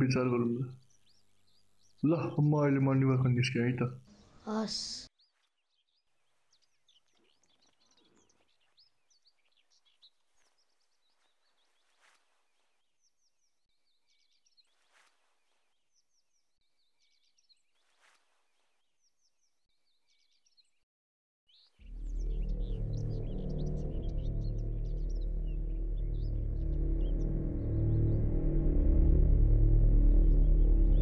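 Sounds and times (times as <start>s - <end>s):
small birds chirping: 0.0s - 20.8s, 21.5s - 28.2s.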